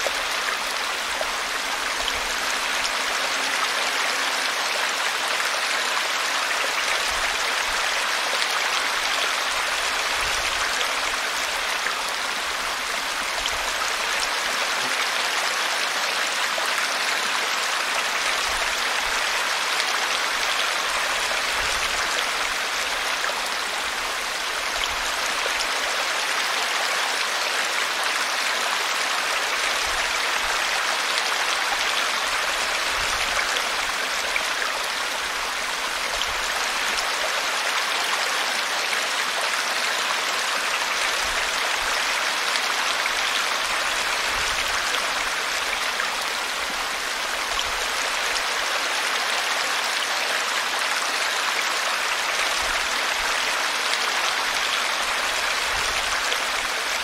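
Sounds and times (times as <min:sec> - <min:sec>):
brook babbling: 0:00.0 - 0:57.0.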